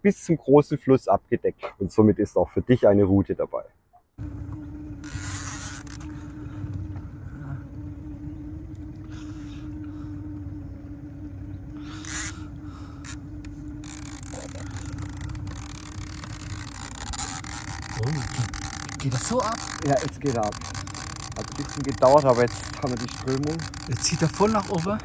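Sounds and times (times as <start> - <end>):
boat motor running: 4.2 - 25.0.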